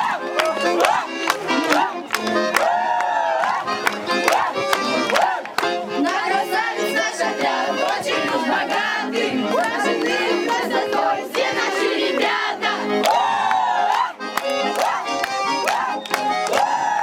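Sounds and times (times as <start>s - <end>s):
group singing song with beat: 0.0s - 15.0s
instrumental backing: 0.0s - 16.9s.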